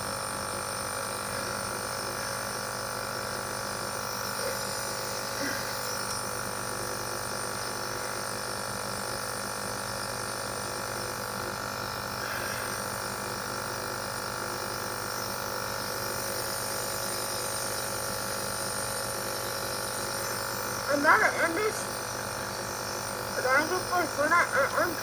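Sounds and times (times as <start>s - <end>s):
electric compressor humming: 0.0s - 25.0s.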